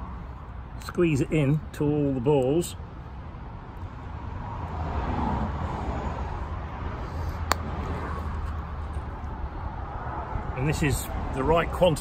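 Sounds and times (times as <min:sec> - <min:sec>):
outdoor rumble and hiss: 0:00.0 - 0:12.0.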